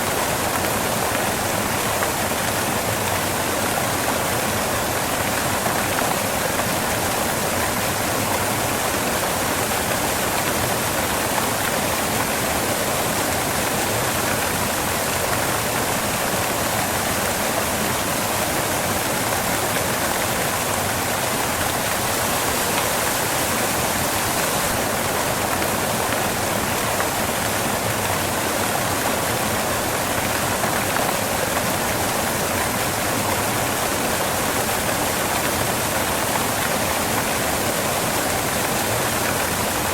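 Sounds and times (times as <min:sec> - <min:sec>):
waterfall splashing onto rocks: 0:00.0 - 0:39.9.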